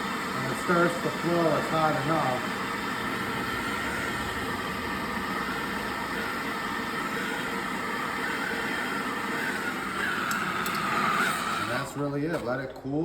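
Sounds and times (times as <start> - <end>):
gas torch hissing: 0.0 - 12.8.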